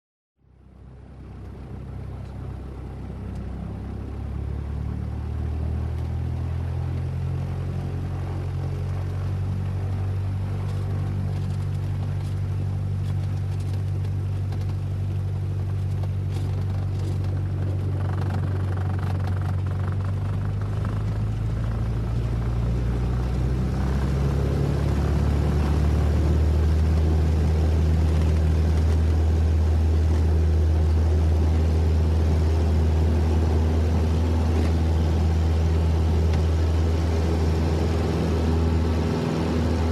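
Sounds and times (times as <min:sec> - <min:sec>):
propeller plane engine drone: 0:00.4 - 0:39.9.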